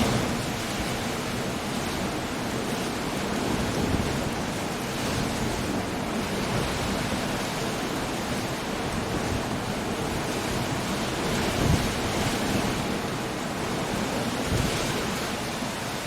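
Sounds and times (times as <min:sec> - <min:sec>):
gusting wind: 0:00.0 - 0:16.0
waves breaking on rocks: 0:00.0 - 0:16.0.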